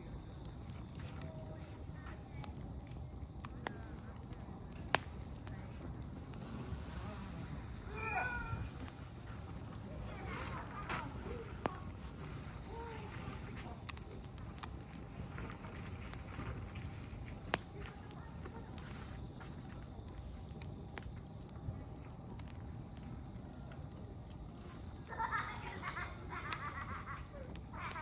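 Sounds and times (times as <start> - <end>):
campfire crackling and popping: 0.0 - 28.0
insects chirping: 0.0 - 28.0.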